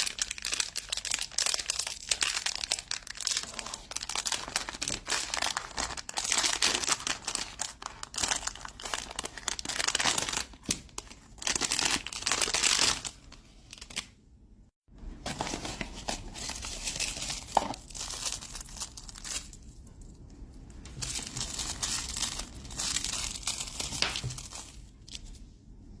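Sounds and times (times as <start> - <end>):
packaging crinkling: 0.0 - 14.1, 15.3 - 19.7, 20.9 - 25.4.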